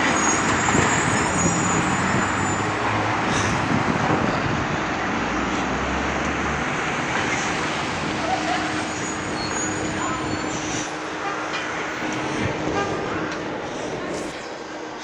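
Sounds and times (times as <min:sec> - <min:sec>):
cars and buses passing: 0:00.0 - 0:15.0
low engine drone: 0:00.0 - 0:15.0.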